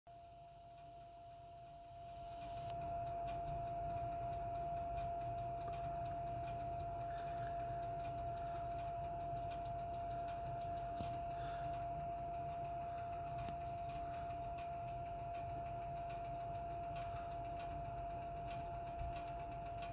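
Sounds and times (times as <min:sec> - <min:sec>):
heater humming with pitched tone: 0:00.1 - 0:19.9
rapid uneven ticking: 0:00.7 - 0:19.9.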